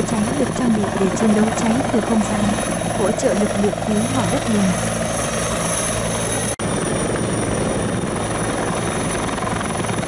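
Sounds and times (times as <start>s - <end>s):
helicopter rotor and engine: 0.0s - 10.0s.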